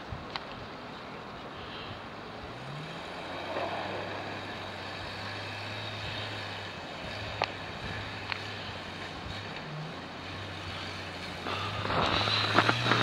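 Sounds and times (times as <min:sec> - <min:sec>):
car engine running: 0:00.7 - 0:13.0.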